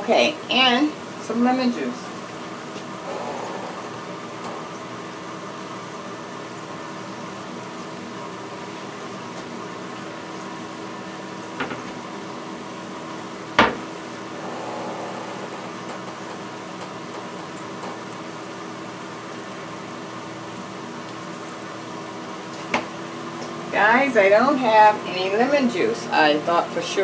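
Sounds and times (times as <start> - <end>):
air fryer fan humming: 0.0 - 27.0.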